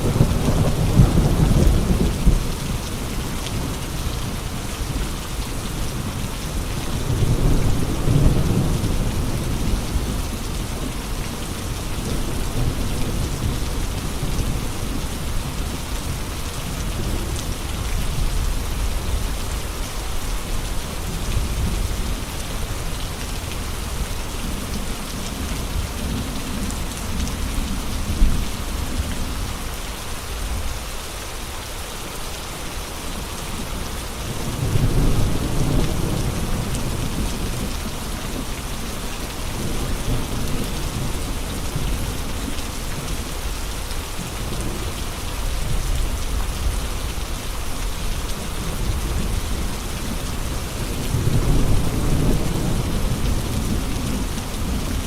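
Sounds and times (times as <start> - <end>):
steady rain: 0.0 - 55.0
wind: 0.0 - 55.0.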